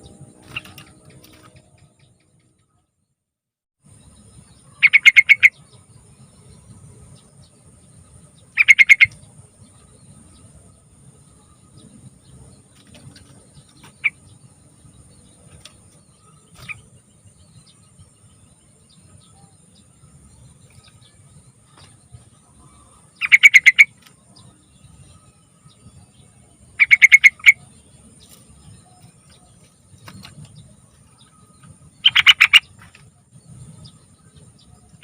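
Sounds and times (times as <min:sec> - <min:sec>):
bird song phrases: 0:03.9 - 0:35.0.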